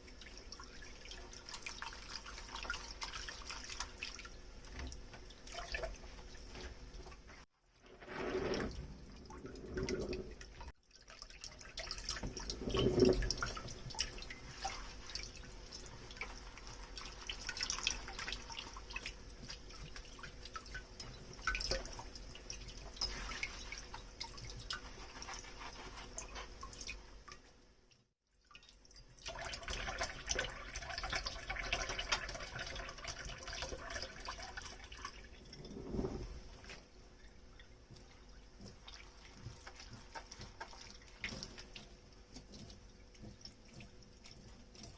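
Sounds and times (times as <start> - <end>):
water dripping and trickling: 0.0 - 7.5, 8.7 - 44.9
tap water running: 0.0 - 27.5, 28.7 - 44.9.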